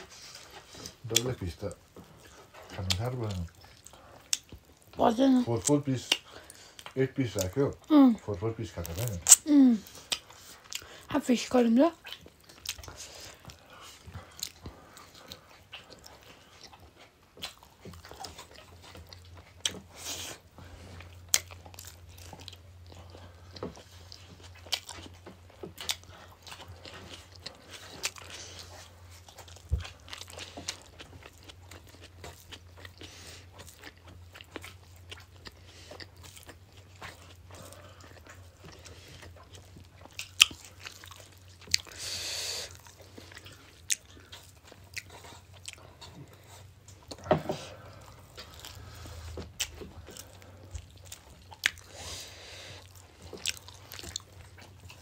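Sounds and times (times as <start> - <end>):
chewing and biting: 0.0 - 11.2, 11.9 - 55.0
low steady hum: 0.0 - 55.0.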